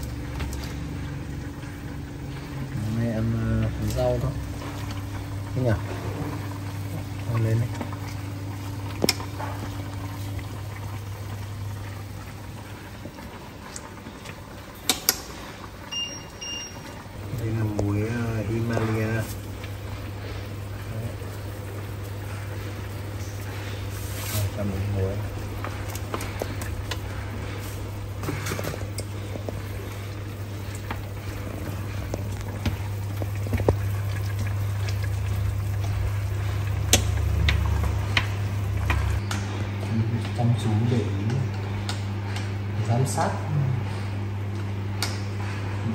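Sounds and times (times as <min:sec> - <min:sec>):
steady low hum: 0:00.0 - 0:45.9
water boiling in pots: 0:00.0 - 0:45.9.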